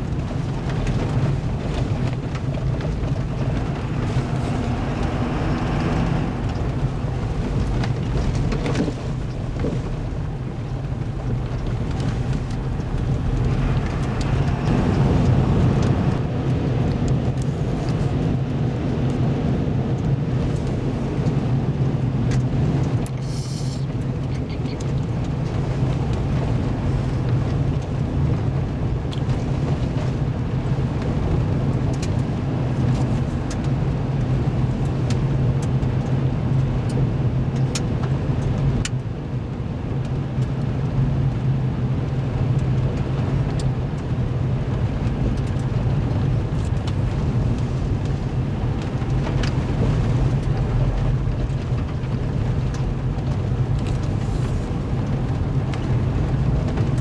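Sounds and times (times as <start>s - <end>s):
car engine and tyres on gravel: 0.0s - 57.0s.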